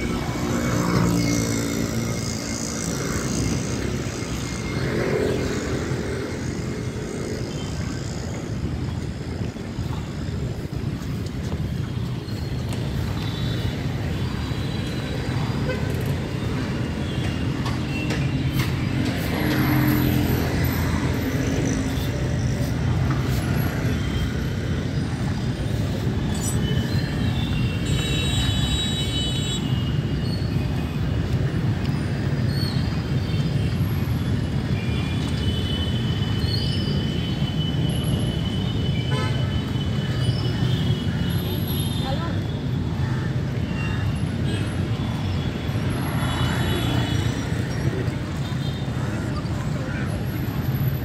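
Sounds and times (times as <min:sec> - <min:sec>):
traffic rumble: 0:00.0 - 0:51.0.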